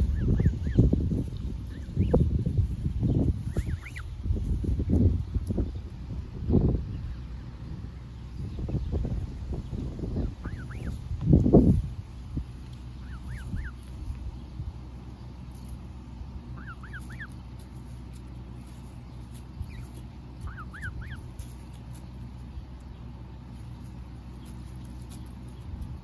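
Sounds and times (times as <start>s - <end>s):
goslings peeping: 0.0s - 26.0s
steady low rumble: 0.0s - 26.0s.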